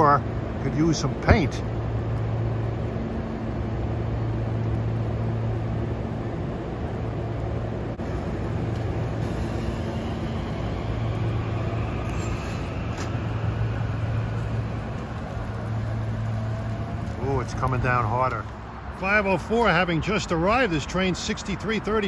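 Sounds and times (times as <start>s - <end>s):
electric train whine: 0.0s - 20.8s
steady low hum: 0.0s - 20.8s
rain hiss: 0.0s - 22.0s.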